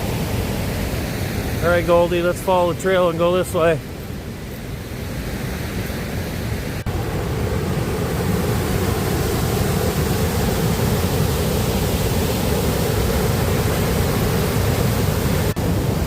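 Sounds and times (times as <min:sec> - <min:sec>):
waterfall rushing: 0:00.0 - 0:04.0, 0:05.3 - 0:16.0.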